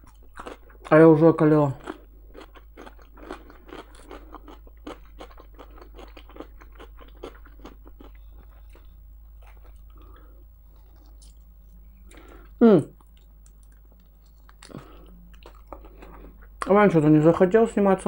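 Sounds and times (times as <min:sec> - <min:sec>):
person chewing food: 0:00.0 - 0:01.0, 0:01.6 - 0:16.7.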